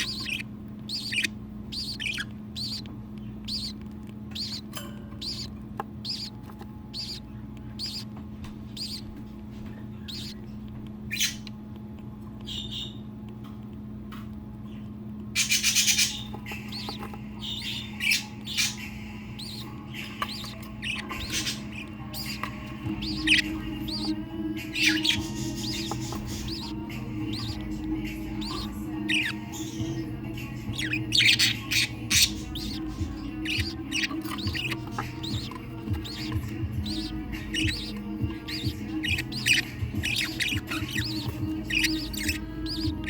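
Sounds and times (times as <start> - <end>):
bird chick peeping: 0.0 - 43.0
steady low hum: 0.0 - 43.0.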